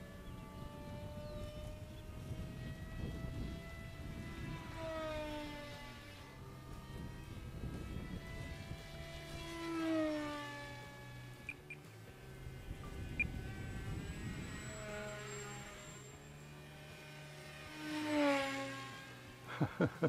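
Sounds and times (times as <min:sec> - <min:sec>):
model plane motor whining: 0:00.0 - 0:19.6.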